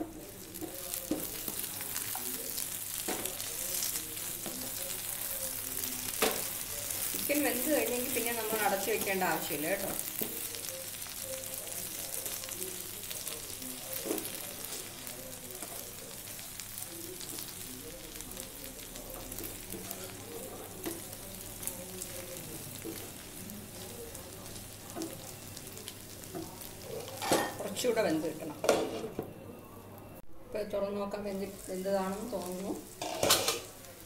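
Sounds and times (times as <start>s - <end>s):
chicken sizzling in oil: 0.0s - 29.1s, 31.2s - 34.0s.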